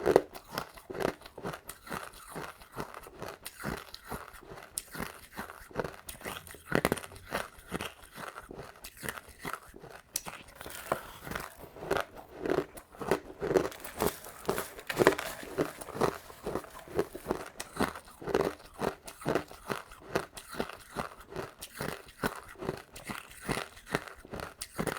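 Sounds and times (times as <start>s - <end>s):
chewing crushed ice crunches: 0.0s - 24.9s.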